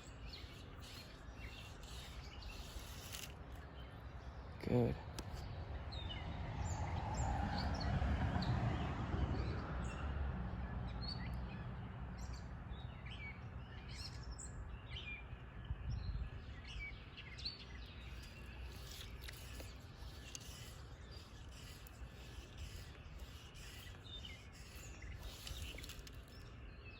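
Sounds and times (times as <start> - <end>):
songbirds chirping: 0.0 - 26.9.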